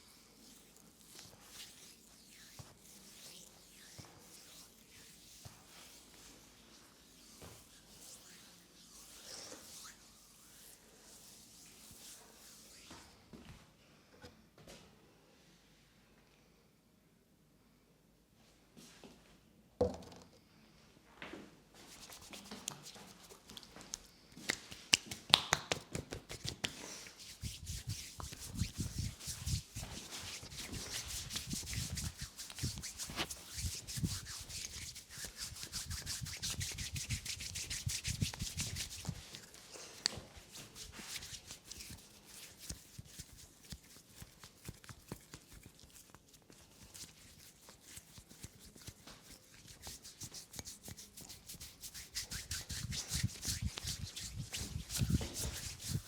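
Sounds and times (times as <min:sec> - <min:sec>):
hands rubbing skin: 0:00.4 - 0:13.0, 0:21.8 - 0:56.0.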